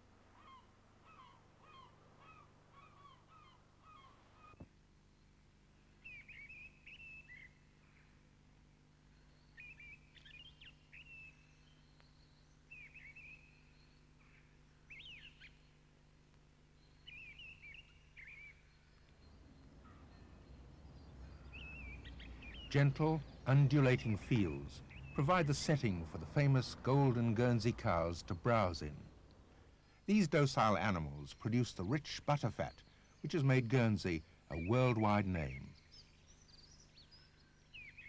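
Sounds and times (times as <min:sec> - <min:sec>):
chirpy birdsong: 0:00.0 - 0:38.0.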